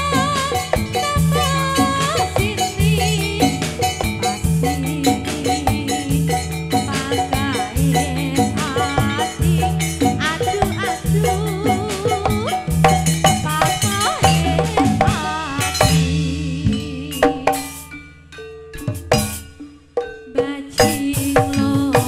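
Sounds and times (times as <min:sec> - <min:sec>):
fast drum strokes: 0:00.0 - 0:17.9, 0:20.4 - 0:22.0
wavering melody: 0:00.0 - 0:21.9
rattling percussion: 0:00.0 - 0:22.0.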